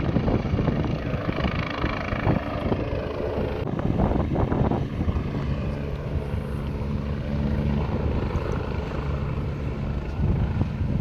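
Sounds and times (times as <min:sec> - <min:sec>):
propeller aircraft engine humming: 0:00.0 - 0:11.0.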